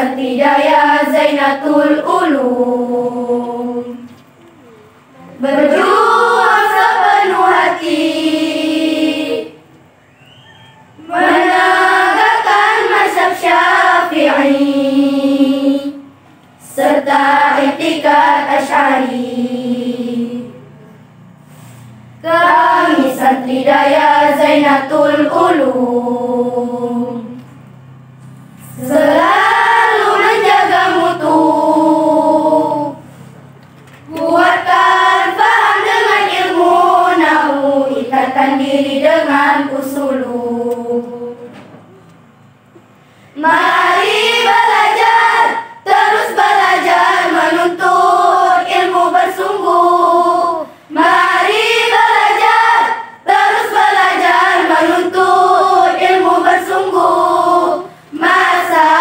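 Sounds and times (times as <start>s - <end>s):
choir singing: 0.0s - 4.1s, 5.4s - 9.6s, 11.0s - 20.7s, 22.2s - 27.4s, 28.6s - 33.1s, 34.0s - 41.6s, 43.4s - 59.0s.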